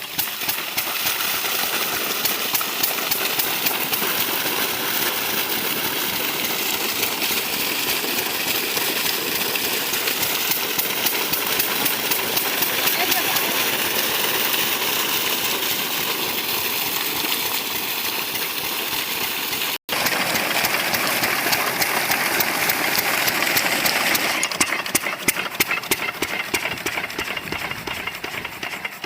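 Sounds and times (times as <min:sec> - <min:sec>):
diesel pump engine knocking: 0:00.0 - 0:29.0.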